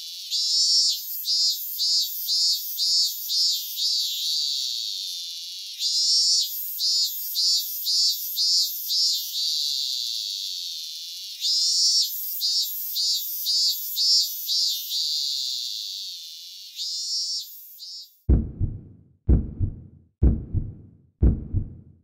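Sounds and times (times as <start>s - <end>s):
cicada buzzing: 0.0s - 18.2s.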